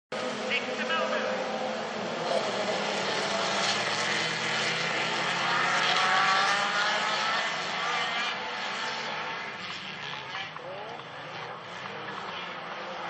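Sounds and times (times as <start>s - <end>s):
racing car engines revving: 0.1s - 13.0s.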